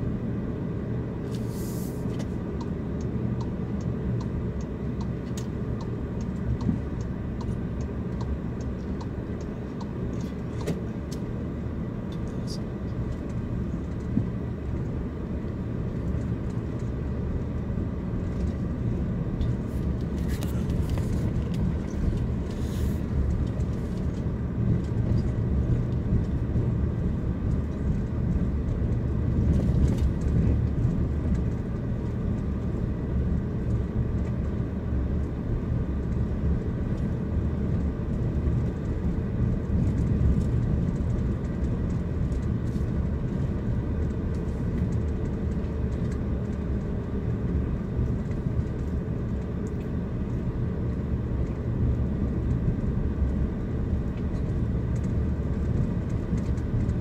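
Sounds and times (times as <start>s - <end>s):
car driving slowly: 0.0s - 57.0s.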